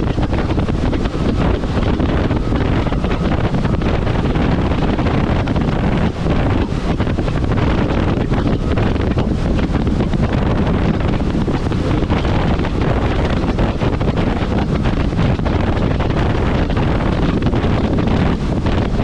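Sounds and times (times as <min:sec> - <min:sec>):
jet ski engine running: 0:00.0 - 0:19.0
wind buffeting microphone: 0:00.0 - 0:19.0.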